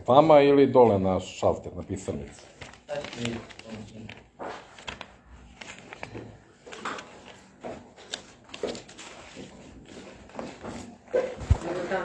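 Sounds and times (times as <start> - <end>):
paper rustling: 1.7 - 12.0.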